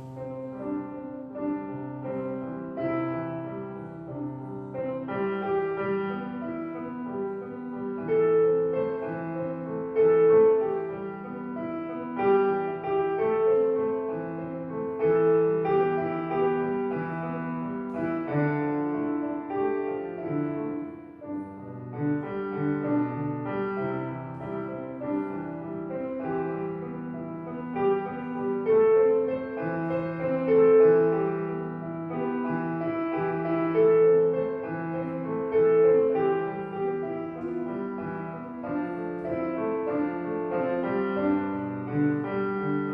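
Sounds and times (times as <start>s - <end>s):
piano melody: 0.0s - 42.9s.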